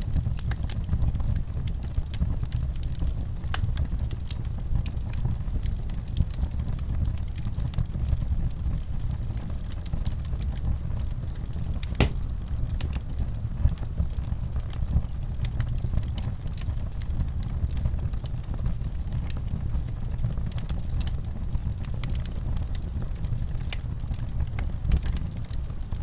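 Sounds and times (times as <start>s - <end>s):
fire flames rumbling: 0.0s - 26.0s
wood fire crackling and popping: 0.2s - 26.0s.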